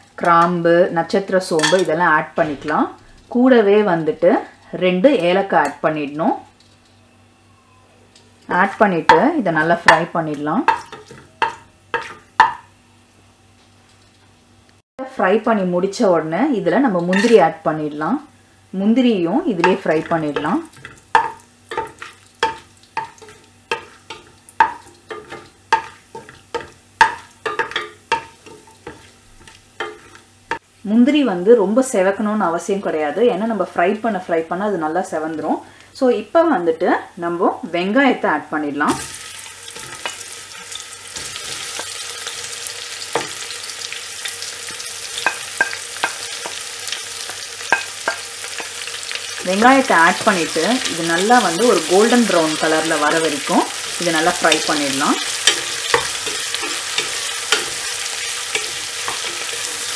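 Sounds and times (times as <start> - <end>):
oil sizzling faintly: 0.0 - 59.9.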